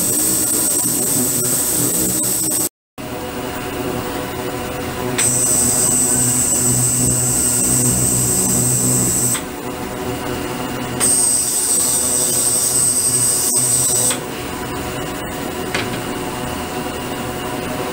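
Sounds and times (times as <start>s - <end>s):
ultrasonic cleaner high whine: 0.0s - 17.9s.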